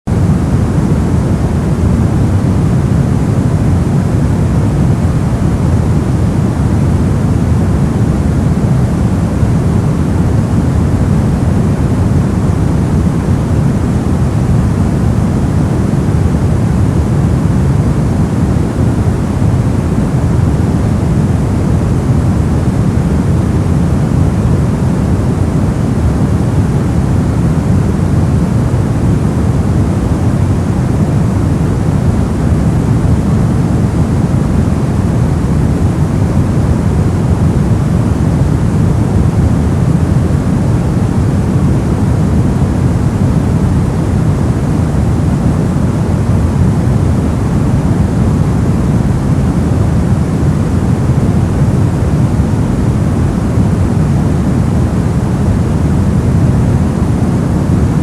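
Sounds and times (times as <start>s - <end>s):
deep rushing brown noise: 0.1s - 58.0s.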